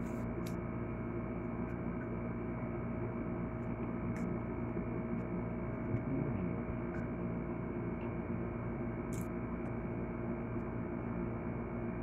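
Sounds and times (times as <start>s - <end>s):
steady multi-tone hum: 0.0s - 12.0s.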